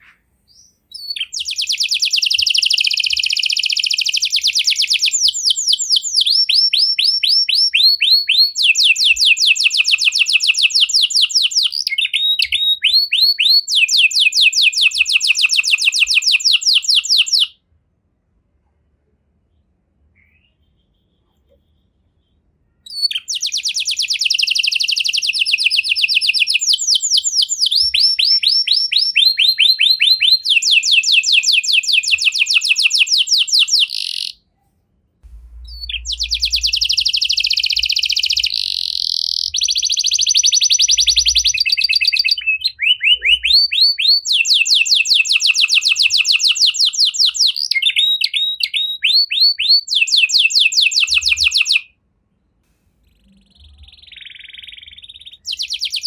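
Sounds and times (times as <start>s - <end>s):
canary singing trills: 0.0s - 17.5s, 20.2s - 34.4s, 35.5s - 51.8s, 53.0s - 56.0s.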